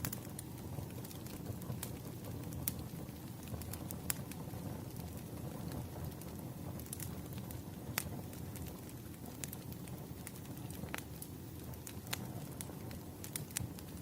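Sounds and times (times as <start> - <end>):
fire crackles and pops: 0.0 - 14.0
firewood burning with low rumble: 0.0 - 14.0.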